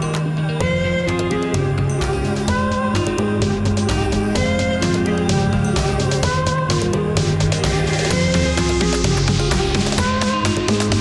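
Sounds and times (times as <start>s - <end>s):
music with drums and guitar: 0.0s - 11.0s.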